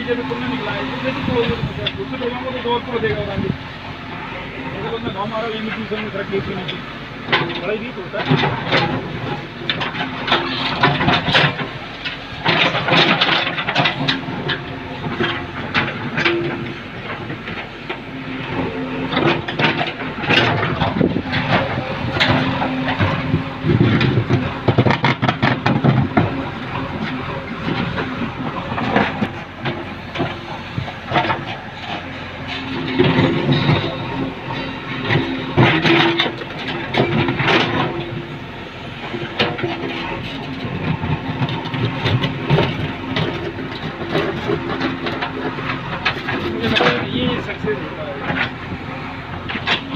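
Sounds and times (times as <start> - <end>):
diesel engine running under load: 0.0 - 49.9
bucket scraping and clanking: 7.3 - 49.9.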